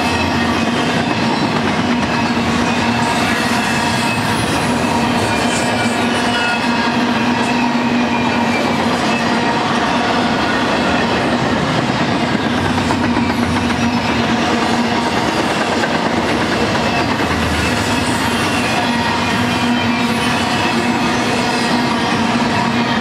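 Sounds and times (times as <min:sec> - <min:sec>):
train wheels clattering on rails: 0:00.0 - 0:23.0.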